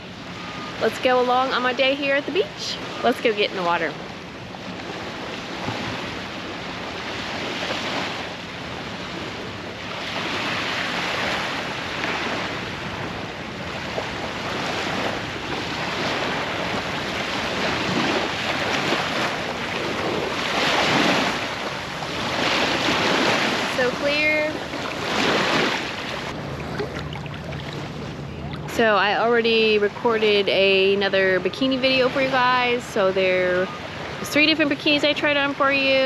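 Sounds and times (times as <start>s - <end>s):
ocean surf washing in: 0.0s - 36.0s
wind on microphone: 0.0s - 36.0s.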